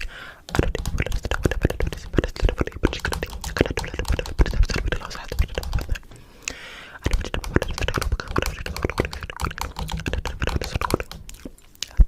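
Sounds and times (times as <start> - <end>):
rapid clicking and tapping: 0.5 - 6.2, 7.0 - 11.5.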